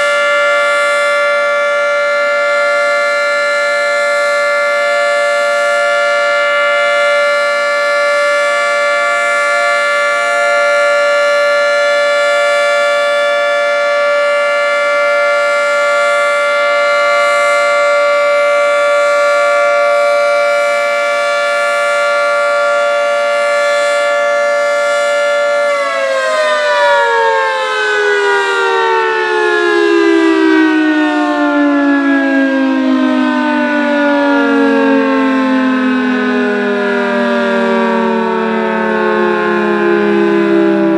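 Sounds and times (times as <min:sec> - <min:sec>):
three-tone siren: 0:00.0 - 0:40.9.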